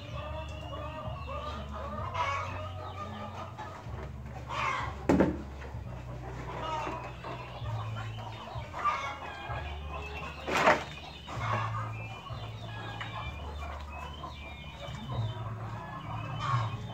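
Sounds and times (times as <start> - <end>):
chickens clucking: 0.0 - 16.9.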